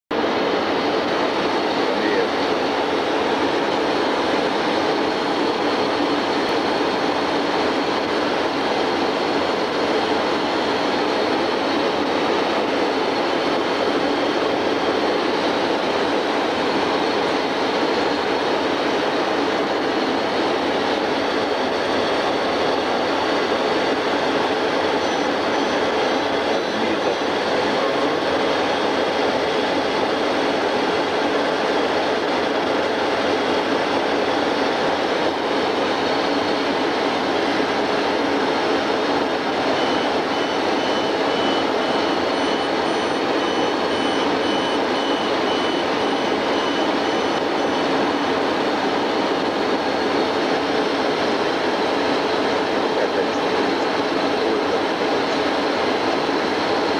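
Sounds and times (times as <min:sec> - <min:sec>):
jet engines droning in cabin: 0:00.1 - 0:56.9.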